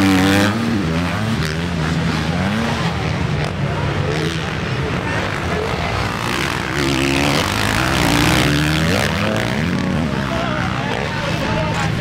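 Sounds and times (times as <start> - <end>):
motocross bike engines racing: 0.0 - 12.0.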